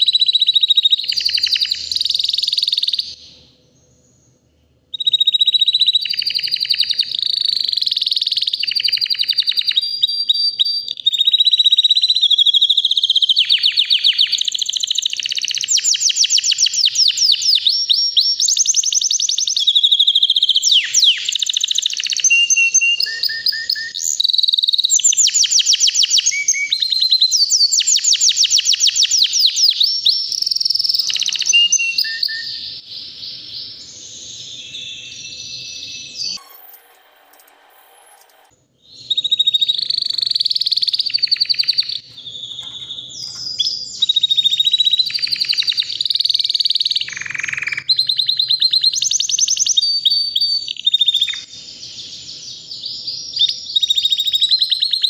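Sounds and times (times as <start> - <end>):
canary singing trills: 0.0 - 4.3, 4.9 - 55.0.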